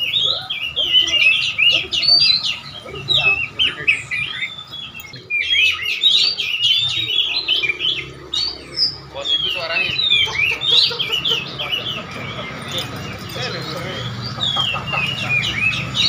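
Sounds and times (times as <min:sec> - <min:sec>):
songbirds chirping and twittering: 0:00.0 - 0:16.0.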